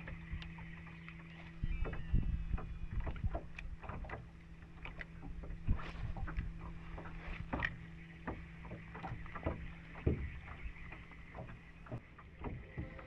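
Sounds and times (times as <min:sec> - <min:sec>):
steady low hum: 0:00.0 - 0:13.0
water slapping against boat hull: 0:00.0 - 0:13.0.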